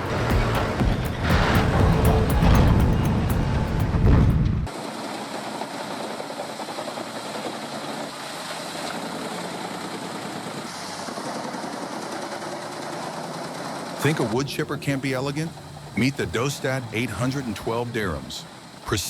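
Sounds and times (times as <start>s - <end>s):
wood chipper engine droning: 0.0s - 19.0s.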